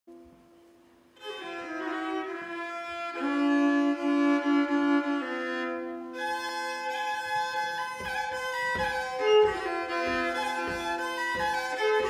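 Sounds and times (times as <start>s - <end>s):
solo fiddle folk tune with drone: 1.2s - 12.0s.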